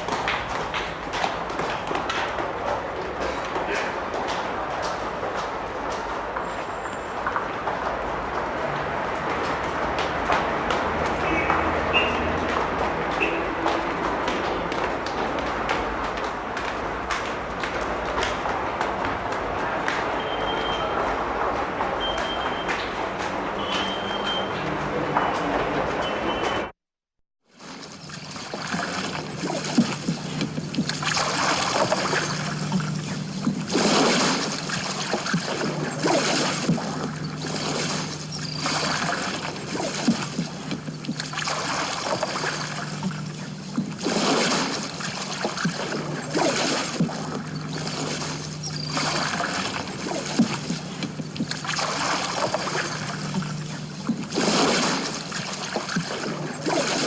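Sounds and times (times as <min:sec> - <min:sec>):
swishing crackly footsteps: 0:00.0 - 0:26.7, 0:27.5 - 0:57.0.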